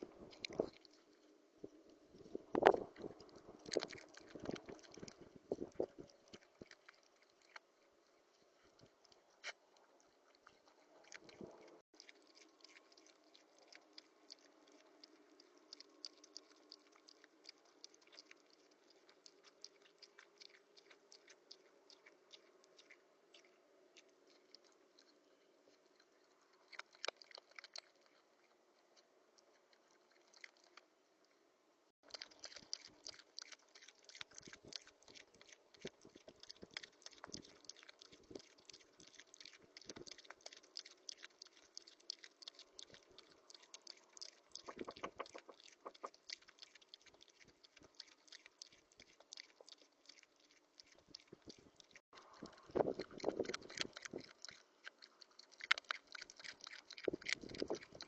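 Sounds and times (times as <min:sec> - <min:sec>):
rodent chewing seeds: 0:00.0 - 0:58.0.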